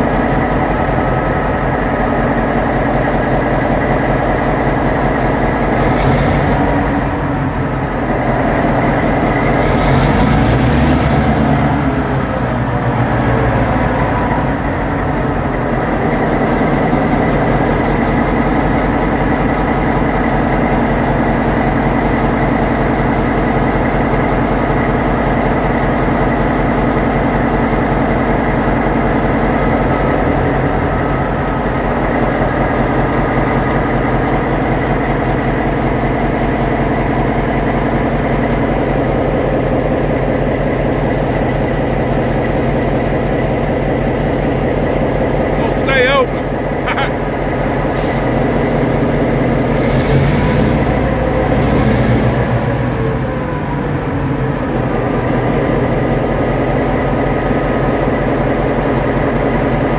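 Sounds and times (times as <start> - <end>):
locomotive diesel engine droning: 0.0 - 59.9.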